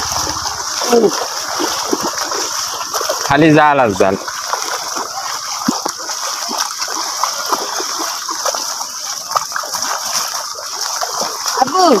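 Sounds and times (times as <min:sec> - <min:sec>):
feet wading through water: 0:00.0 - 0:12.0.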